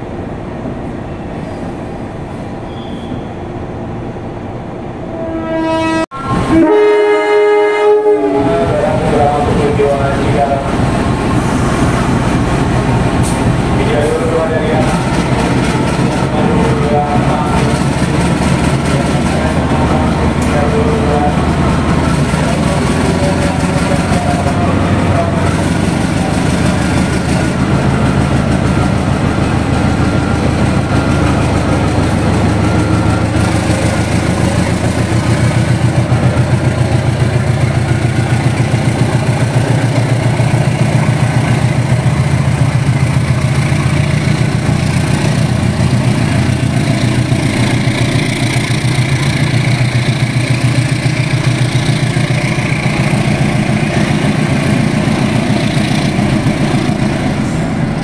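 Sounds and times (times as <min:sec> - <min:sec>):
diesel locomotive engine running: 0:04.9 - 0:58.0.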